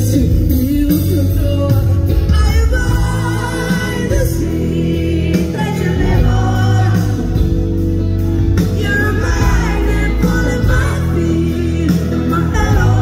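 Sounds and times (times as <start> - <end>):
lead singer vocals: 0.0 - 13.0
live band playing pop song: 0.0 - 13.0.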